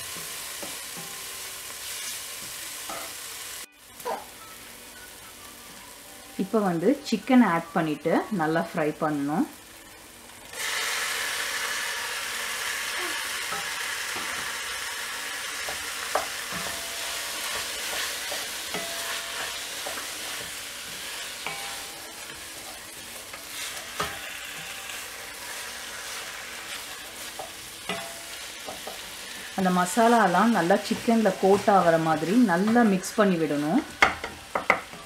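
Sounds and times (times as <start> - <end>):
chicken sizzling in hot oil: 0.0 - 35.0.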